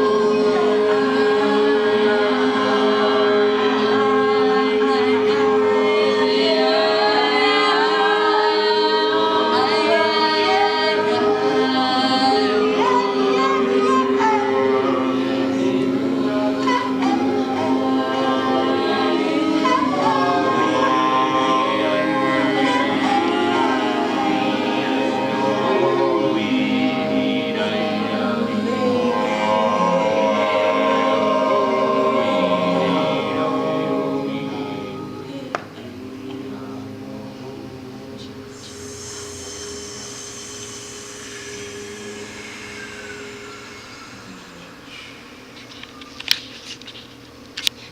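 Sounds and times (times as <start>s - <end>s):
voices singing together: 0.0s - 46.4s
long held drone notes: 0.0s - 46.7s.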